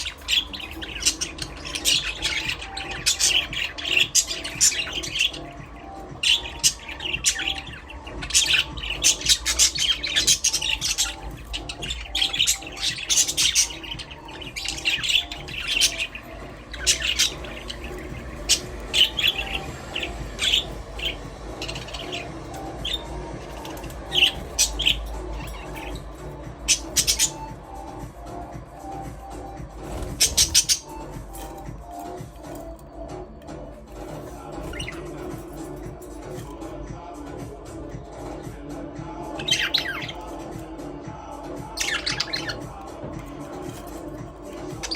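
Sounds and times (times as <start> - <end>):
budgerigars chirping: 0.0 - 36.6, 39.3 - 40.6, 41.6 - 44.9.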